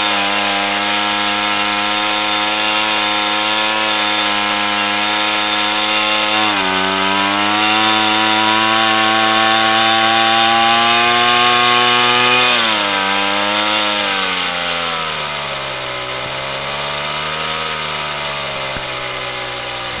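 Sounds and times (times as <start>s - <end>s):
two-stroke moped engine running: 0.0s - 20.0s.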